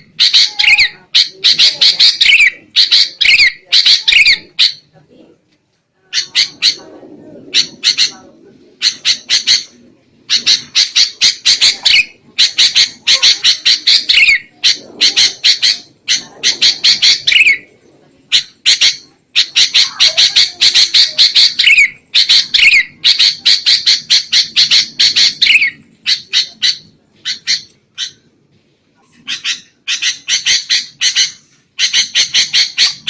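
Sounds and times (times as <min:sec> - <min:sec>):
birds harsh scolding calls: 0:00.0 - 0:05.0, 0:06.1 - 0:28.4, 0:29.2 - 0:33.0.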